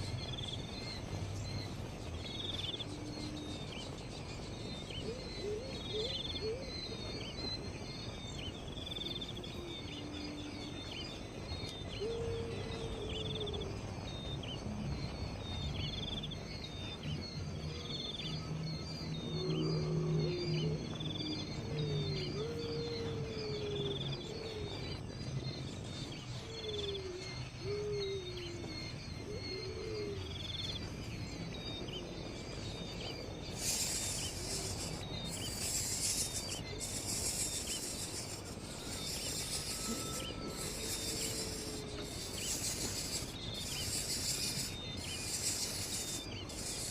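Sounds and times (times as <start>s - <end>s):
birds calling and chirping: 0.0s - 46.9s.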